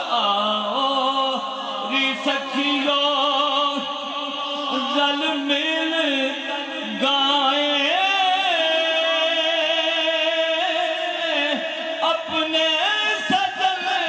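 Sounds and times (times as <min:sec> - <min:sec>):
man singing long notes: 0:00.0 - 0:14.0.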